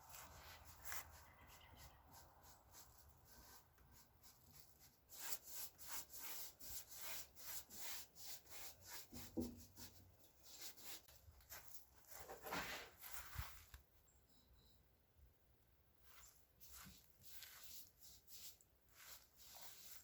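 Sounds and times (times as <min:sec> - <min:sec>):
rubbing strokes on hard surface: 0:00.0 - 0:13.6, 0:16.0 - 0:20.0.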